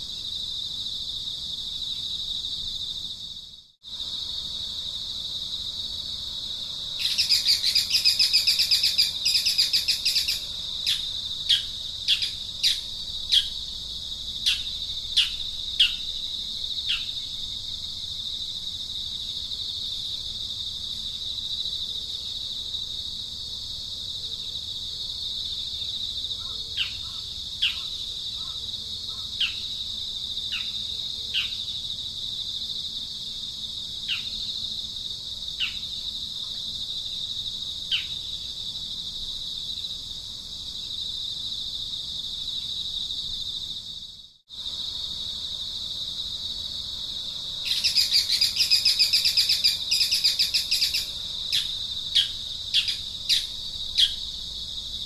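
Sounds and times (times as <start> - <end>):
insect drone: 0.0 - 55.0.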